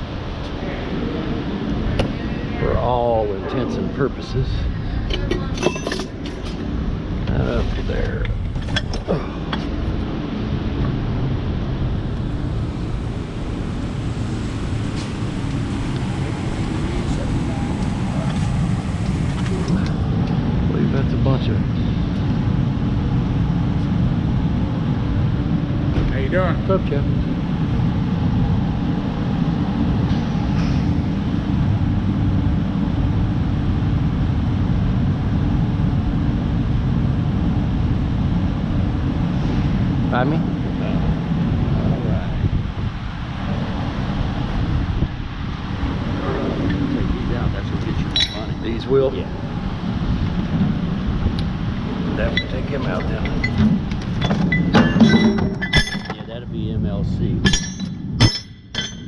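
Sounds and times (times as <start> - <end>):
vehicle engine running: 0.0 - 57.3.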